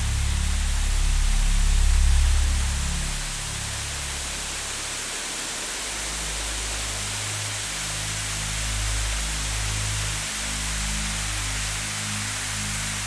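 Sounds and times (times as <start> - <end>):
soft background music: 0.0 - 13.0
waterfall rushing: 0.0 - 13.0.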